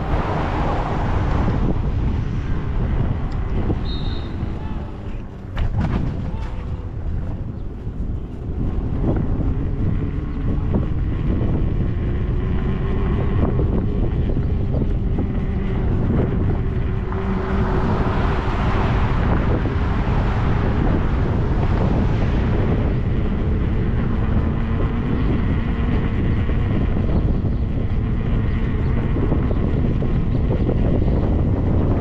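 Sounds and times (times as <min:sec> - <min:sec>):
low rumble: 0:00.0 - 0:32.0
wind buffeting microphone: 0:00.0 - 0:32.0.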